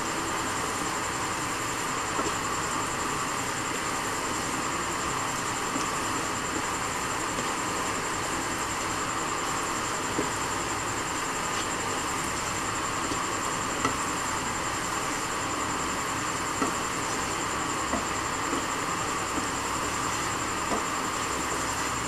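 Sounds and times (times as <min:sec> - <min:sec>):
spatula stirring thick food in pan: 0:00.0 - 0:22.0
steady hum and hiss: 0:00.0 - 0:22.0.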